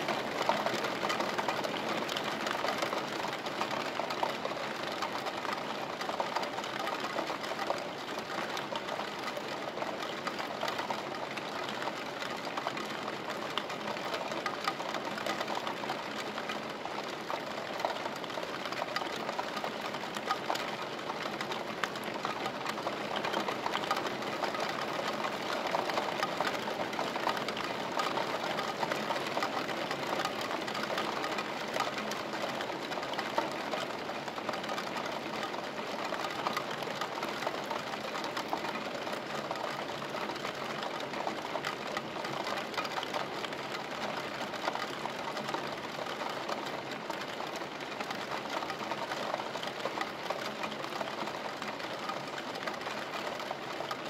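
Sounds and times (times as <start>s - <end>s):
rain pattering through window: 0.0s - 54.0s.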